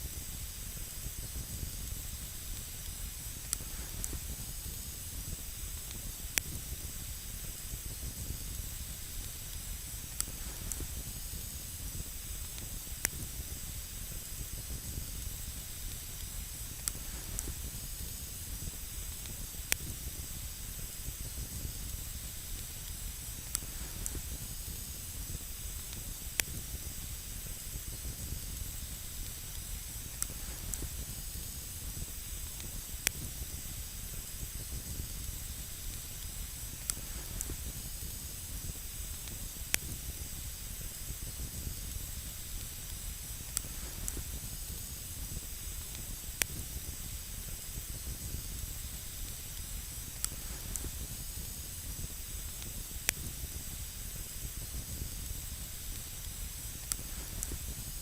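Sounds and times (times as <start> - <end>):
campfire crackling: 0.1 - 58.0.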